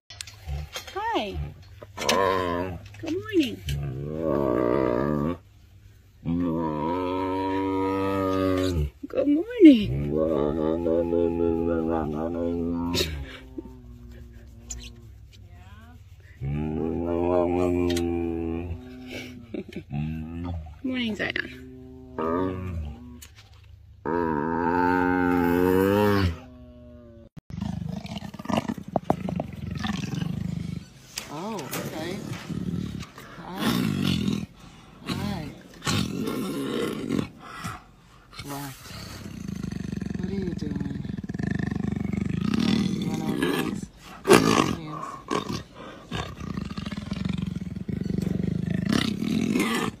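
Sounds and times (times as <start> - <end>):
jaguar growling: 0.2 - 5.4, 6.2 - 15.4, 16.2 - 50.0.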